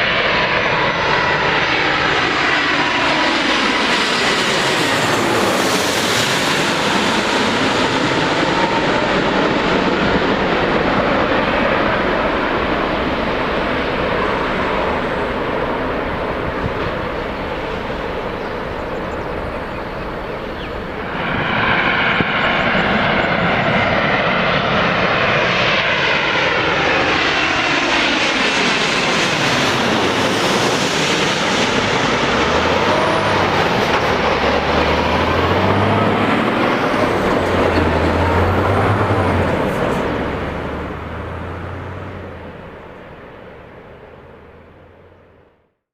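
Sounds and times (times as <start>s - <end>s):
jet airliner passing: 0.0s - 45.6s.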